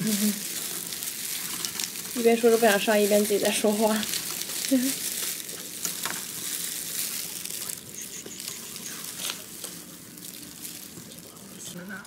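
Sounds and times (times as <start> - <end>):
plastic gloves crinkling: 0.0 - 12.0
shells cracking: 0.4 - 11.6.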